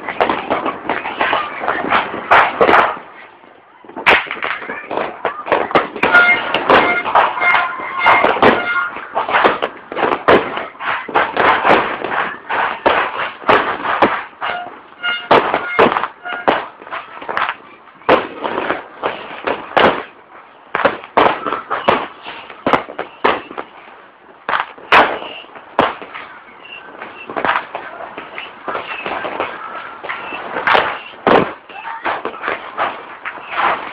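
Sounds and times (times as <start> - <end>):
fireworks bangs: 0.0 - 33.9.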